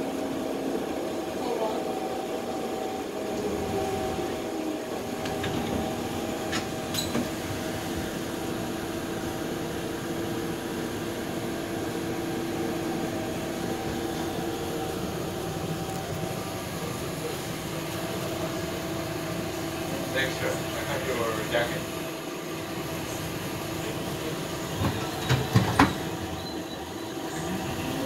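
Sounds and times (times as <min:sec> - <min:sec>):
streetcar rumble and electrical hum: 0:00.0 - 0:28.0.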